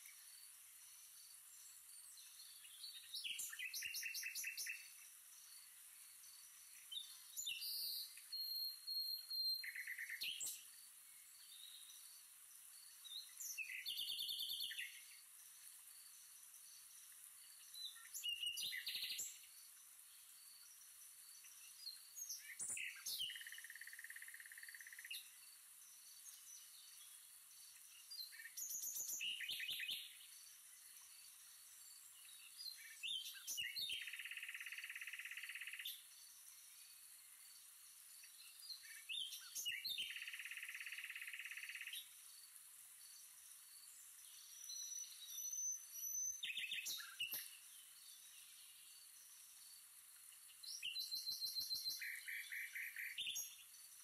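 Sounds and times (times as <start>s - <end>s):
birds chirping: 1.0s - 36.5s, 43.0s - 54.0s.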